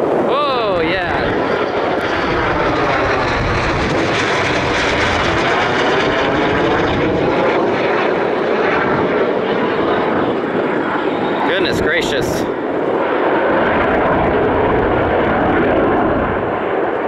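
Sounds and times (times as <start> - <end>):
jet roar passing overhead: 0.0 - 17.0.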